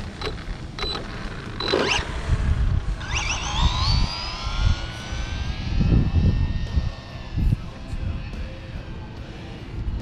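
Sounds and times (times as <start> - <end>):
rc car motor whining: 0.0 - 9.1
wind buffeting microphone: 0.0 - 10.0.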